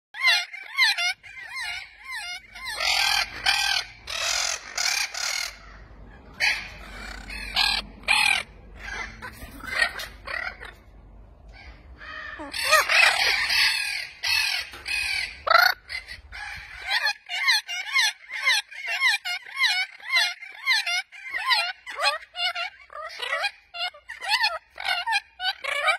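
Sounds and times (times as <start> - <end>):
macaws screeching: 0.2 - 10.9, 11.5 - 25.9.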